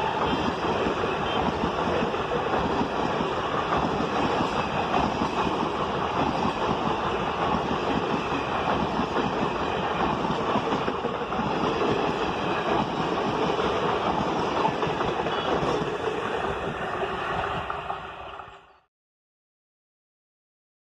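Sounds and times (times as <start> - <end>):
train wheels rattling on rails: 0.0 - 18.8.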